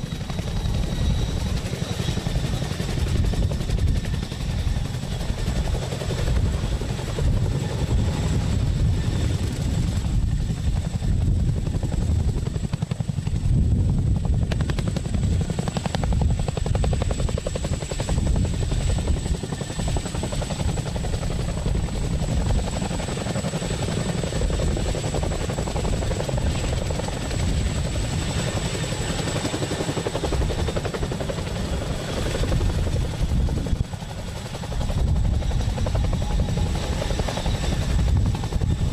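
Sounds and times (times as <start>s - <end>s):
helicopter rotor blades beating: 0.0s - 38.9s.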